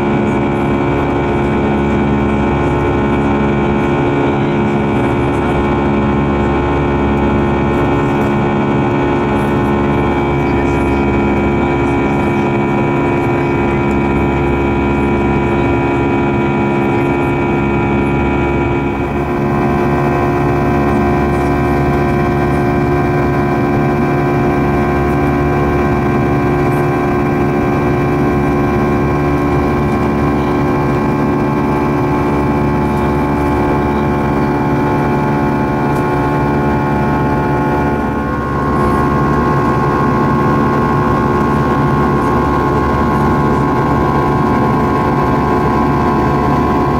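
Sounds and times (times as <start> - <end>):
jet engines droning with whining tones: 0.0 - 46.9.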